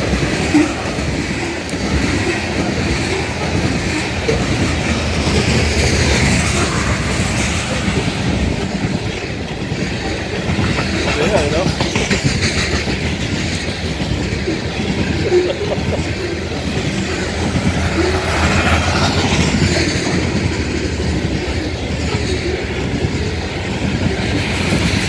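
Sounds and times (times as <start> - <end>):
train wheels rumbling on rails: 0.0 - 25.0
wheel squeaks: 0.0 - 25.0.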